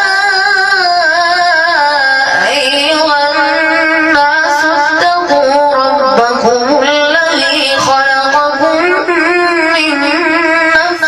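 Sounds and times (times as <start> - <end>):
boy chanting recitation: 0.0 - 11.0.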